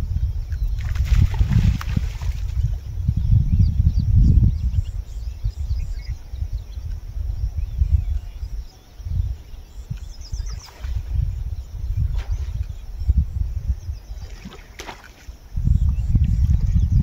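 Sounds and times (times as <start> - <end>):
wind buffeting microphone: 0.0 - 17.0
faint bird chirps: 0.1 - 17.0.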